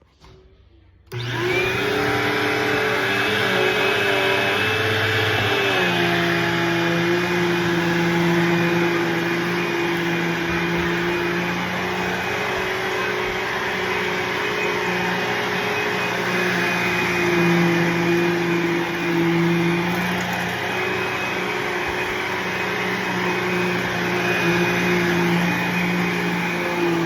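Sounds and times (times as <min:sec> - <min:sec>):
vacuum cleaner running: 0:01.1 - 0:27.0.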